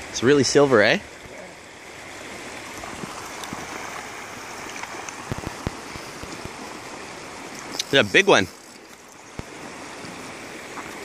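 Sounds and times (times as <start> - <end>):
stream running over gravel: 0.0 - 11.0.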